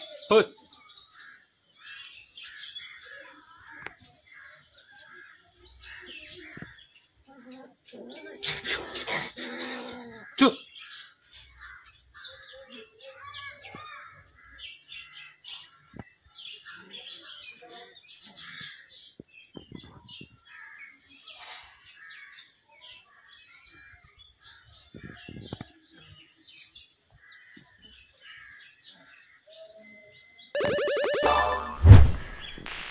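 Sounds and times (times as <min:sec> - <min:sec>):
birds chirping and calling: 0:00.0 - 0:29.9.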